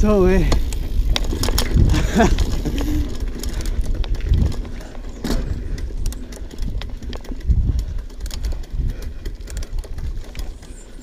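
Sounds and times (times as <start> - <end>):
bike clicks and rattles: 0.0 - 11.0
rumble of wind and tyres: 0.0 - 11.0.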